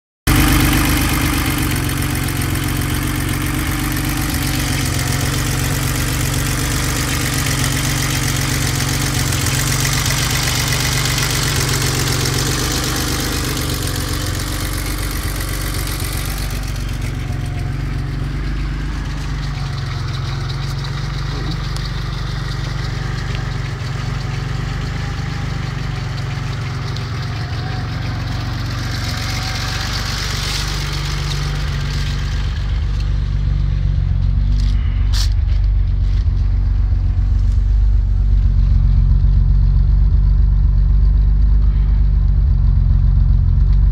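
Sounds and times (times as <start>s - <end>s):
car engine idling: 0.3s - 43.9s.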